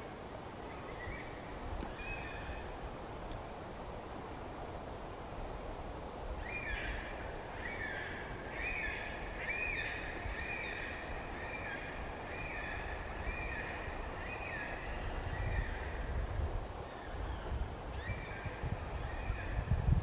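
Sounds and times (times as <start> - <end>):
wind roaring in branches: 0.0 - 20.0.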